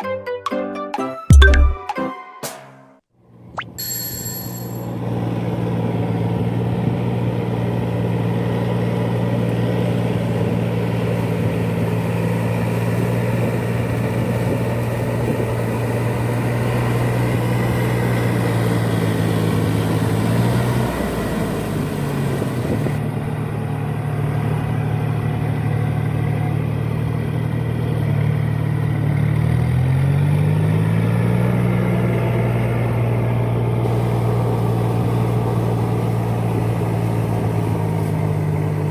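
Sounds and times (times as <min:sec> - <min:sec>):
tractor engine running under load: 0:04.9 - 0:38.9.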